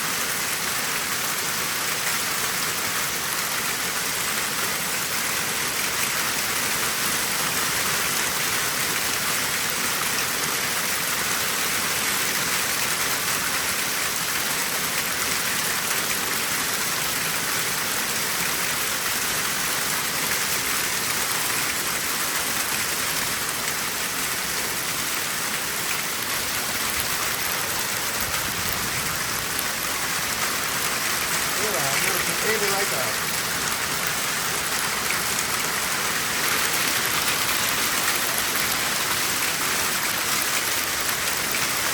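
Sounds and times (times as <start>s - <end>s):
heavy rain and hail: 0.0s - 41.9s.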